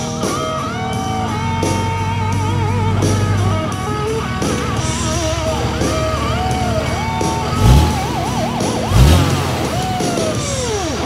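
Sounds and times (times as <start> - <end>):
guitar with bent notes: 0.0 - 11.0
low bass: 0.0 - 11.0.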